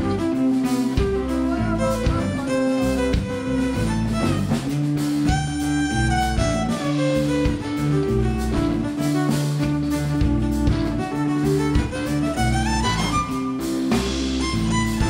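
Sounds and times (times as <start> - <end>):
rock blues band playing: 0.0 - 15.0
violin bowed notes: 0.0 - 15.0.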